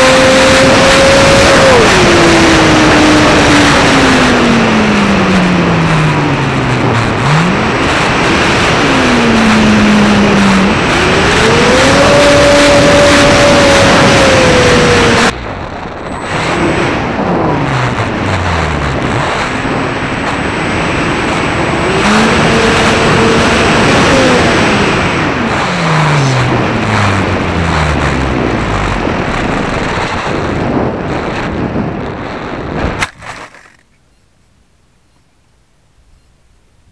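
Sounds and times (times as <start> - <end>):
wind rush over airframe: 0.0 - 33.3.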